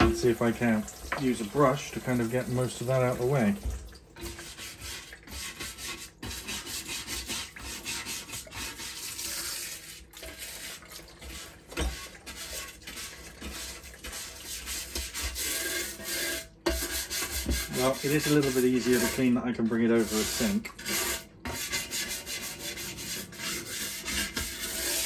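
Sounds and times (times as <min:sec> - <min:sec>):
dish brush scrubbing grill plate: 0:00.0 - 0:25.0
water splashing in sink: 0:00.0 - 0:25.0.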